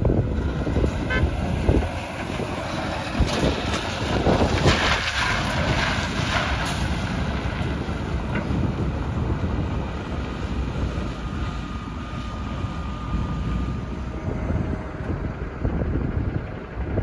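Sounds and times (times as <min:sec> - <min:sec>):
truck engine rumbling: 0:00.0 - 0:17.0
wind buffeting microphone: 0:00.0 - 0:17.0.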